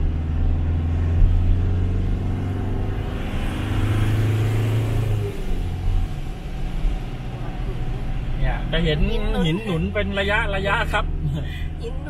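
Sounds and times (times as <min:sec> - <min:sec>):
pickup engine pulling uphill: 0:00.0 - 0:12.0.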